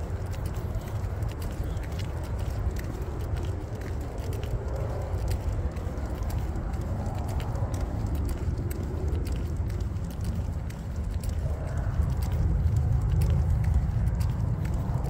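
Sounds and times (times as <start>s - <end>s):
footsteps on concrete: 0.0s - 15.0s
steady low rumble: 0.0s - 15.0s.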